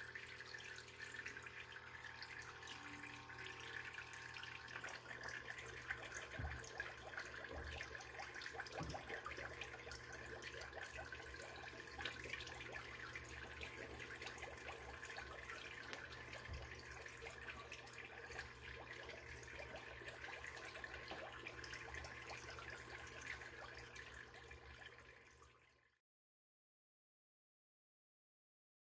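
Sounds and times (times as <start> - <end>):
steady pump hum: 0.0 - 25.5
water trickling and splashing: 0.0 - 25.9.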